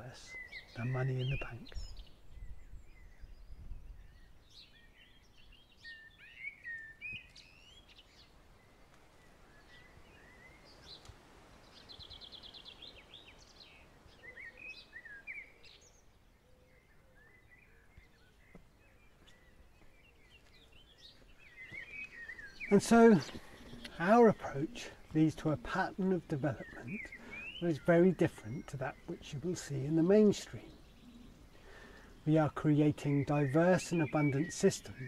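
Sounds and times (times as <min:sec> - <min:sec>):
quiet rural background noise: 0:00.0 - 0:35.0
songbirds chirping and singing: 0:00.0 - 0:35.0.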